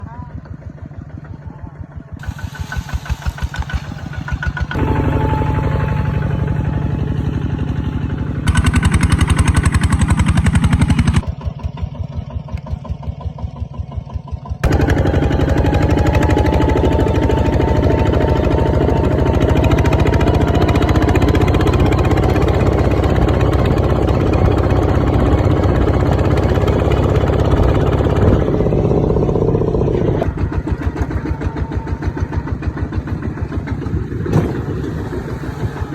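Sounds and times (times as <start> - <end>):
diesel engine chugging: 0.0 - 35.9.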